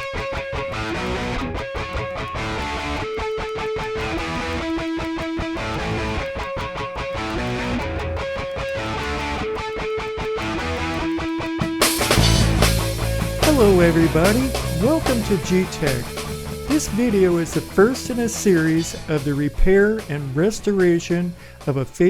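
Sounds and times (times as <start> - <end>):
plucked guitar riff: 0.0 - 21.9.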